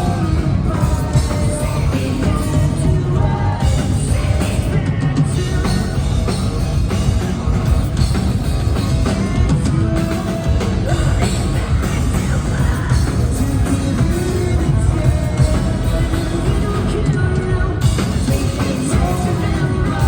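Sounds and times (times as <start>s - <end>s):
person singing: 0.0s - 20.0s
rock band playing live: 0.0s - 20.0s.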